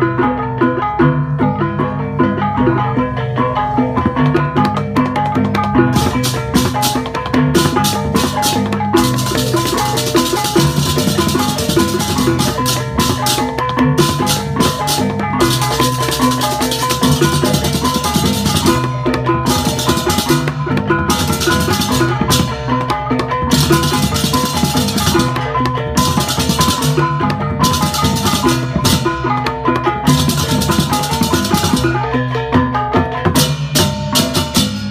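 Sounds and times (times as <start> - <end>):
gamelan percussion music: 0.0 - 34.9.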